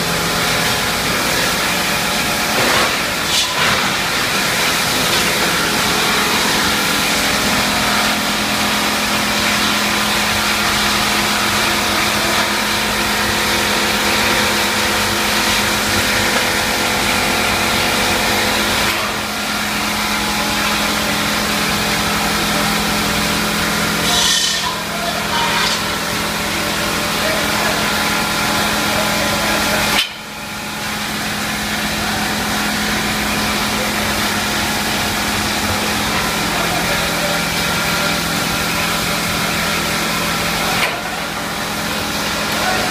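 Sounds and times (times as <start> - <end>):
machine motors droning: 0.0 - 42.9.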